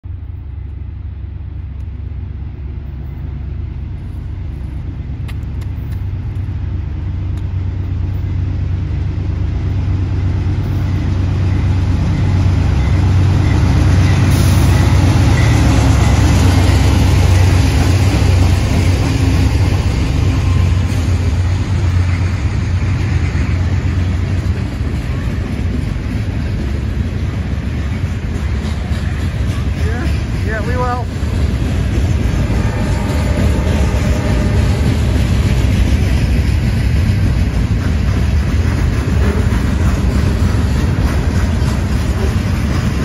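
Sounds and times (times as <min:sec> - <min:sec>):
freight train passing: 0:00.0 - 0:43.0.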